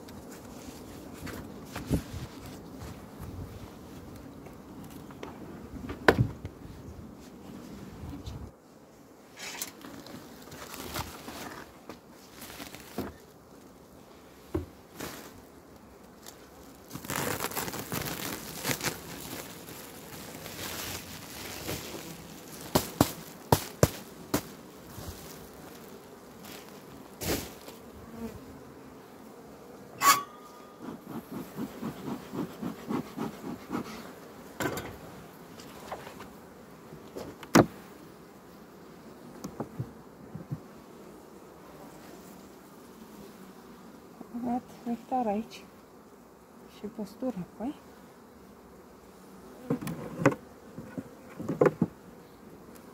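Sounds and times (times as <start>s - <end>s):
bees buzzing: 8.6s - 52.9s.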